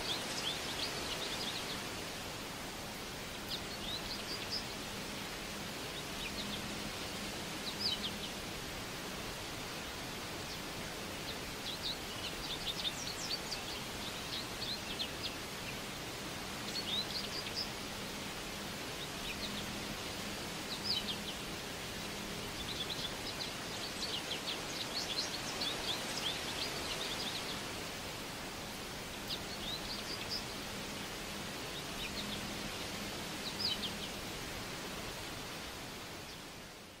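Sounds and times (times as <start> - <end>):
songbirds chirping: 0.0 - 37.0
steady background hiss: 0.0 - 37.0.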